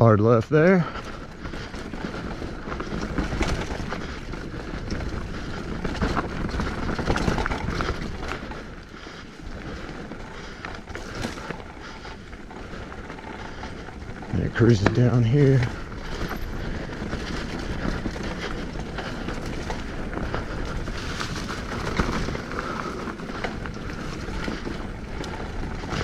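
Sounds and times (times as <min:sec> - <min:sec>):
bike rattling over rocks: 0:00.6 - 0:26.0
rush of tyre noise: 0:01.1 - 0:26.0.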